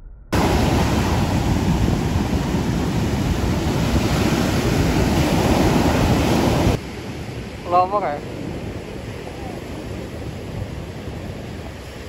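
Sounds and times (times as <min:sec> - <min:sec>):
ocean surf breaking: 0:00.4 - 0:12.0
wind on microphone: 0:00.4 - 0:12.0.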